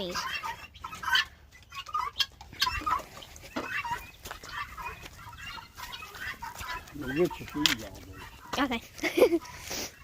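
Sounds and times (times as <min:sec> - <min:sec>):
guineafowl calling: 0:00.0 - 0:10.0.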